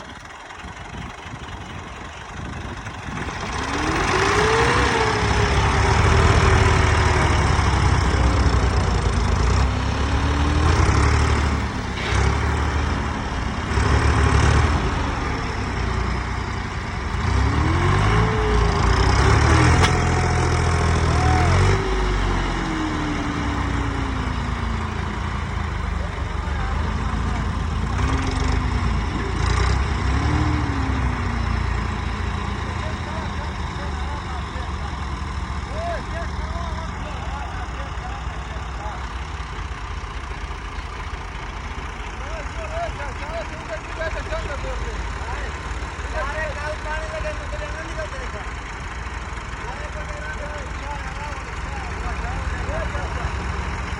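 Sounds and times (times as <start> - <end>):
tractor engine revving: 0.0 - 53.9.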